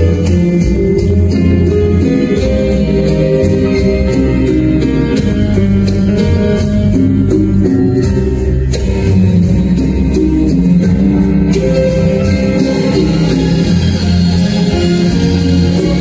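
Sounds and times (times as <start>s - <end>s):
rumba dance music: 0.0s - 16.0s.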